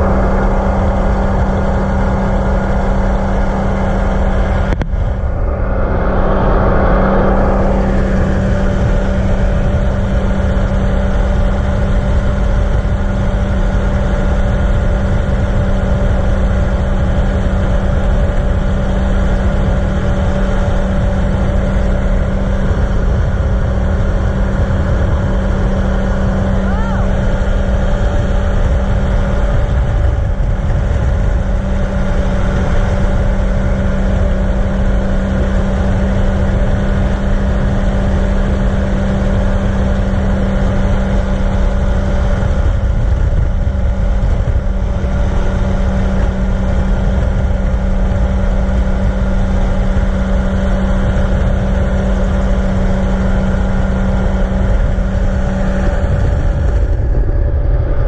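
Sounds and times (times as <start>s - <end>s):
aircraft engine and propeller drone: 0.0s - 58.0s
wind rushing on microphone: 0.0s - 58.0s.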